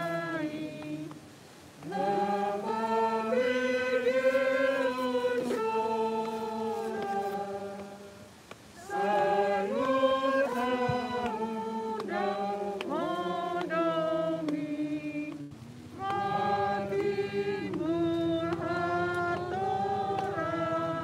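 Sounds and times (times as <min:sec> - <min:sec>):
group singing a hymn unaccompanied: 0:00.0 - 0:21.0.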